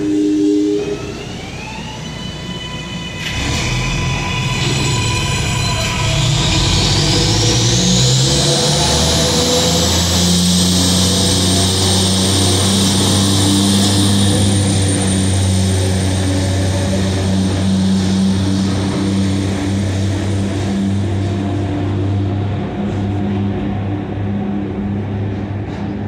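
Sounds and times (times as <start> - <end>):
diesel locomotive engine drone: 0.0 - 26.0
high-pitched whine: 0.0 - 26.0
train wheel rumble: 0.0 - 26.0.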